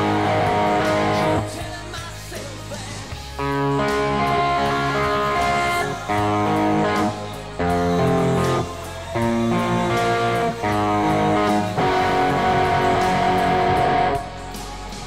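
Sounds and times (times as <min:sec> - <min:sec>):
low bass part: 0:00.0 - 0:02.1, 0:03.2 - 0:15.0
electric guitar chords: 0:00.0 - 0:15.0.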